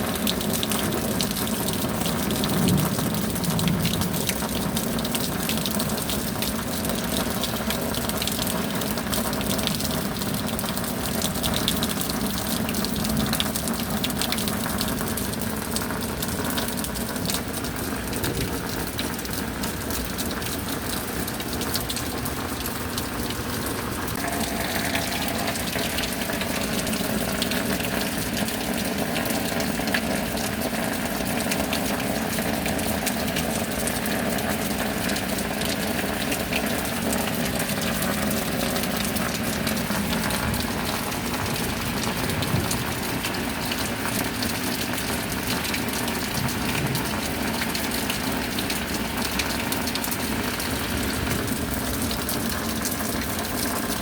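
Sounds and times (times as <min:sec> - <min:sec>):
steady rain: 0:00.0 - 0:54.0
water pouring and gushing: 0:00.0 - 0:54.0.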